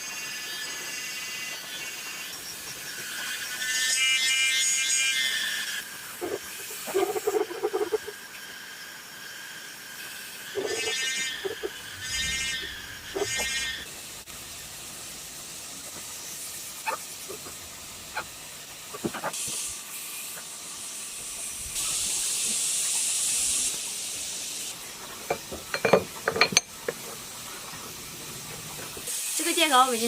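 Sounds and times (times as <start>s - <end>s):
steady hiss: 5.8s - 30.0s.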